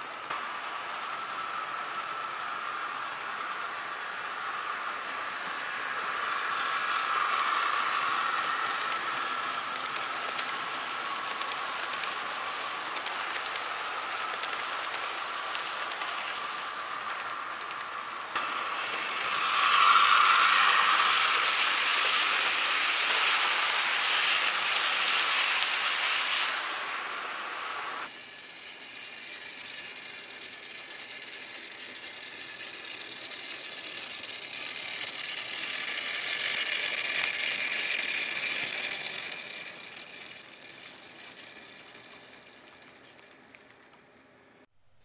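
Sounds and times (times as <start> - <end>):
wheels rattling on rails: 0.0 - 44.5
model train motor whine: 0.0 - 44.6.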